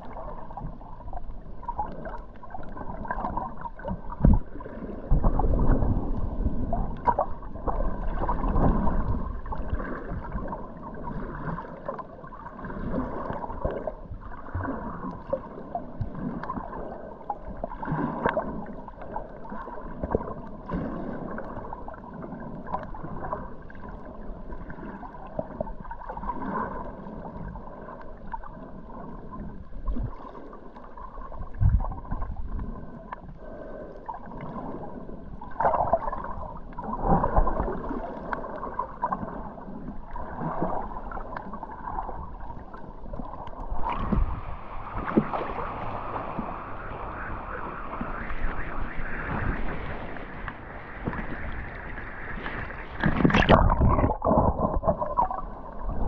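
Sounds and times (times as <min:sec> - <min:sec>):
muffled underwater sea noise: 0:00.0 - 0:56.0
water gurgling and swishing: 0:00.0 - 0:56.0.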